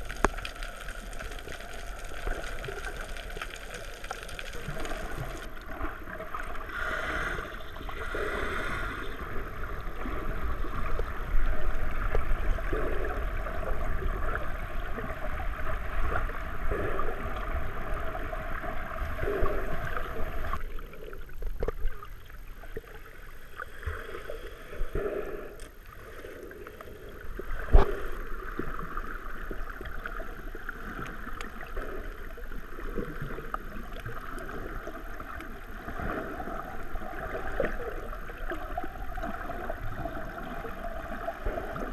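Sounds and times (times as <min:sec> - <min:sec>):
muffled underwater water rushing: 0:00.0 - 0:41.9.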